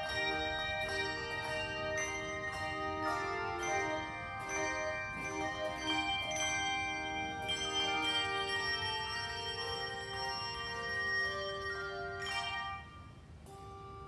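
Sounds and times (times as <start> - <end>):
handbell choir ringing: 0.0 - 13.7.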